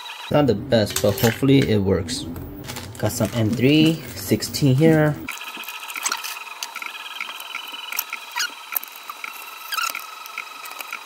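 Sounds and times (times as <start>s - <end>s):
faint machine whine: 0.3s - 11.0s.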